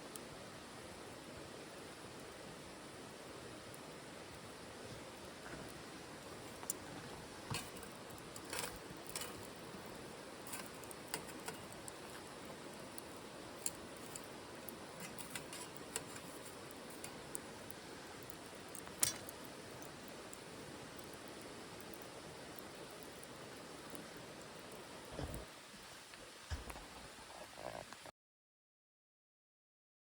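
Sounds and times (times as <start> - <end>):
soft steady hiss: 0.0 - 28.1
wood fire crackling: 0.0 - 28.1.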